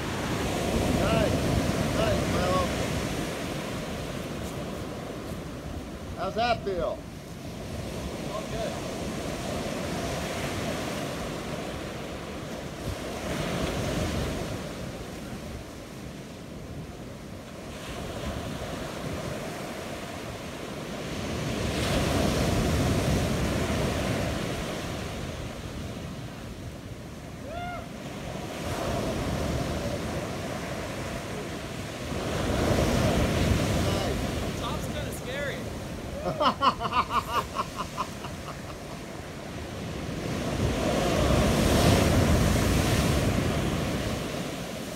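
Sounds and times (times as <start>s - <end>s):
ocean surf breaking: 0.0s - 44.9s.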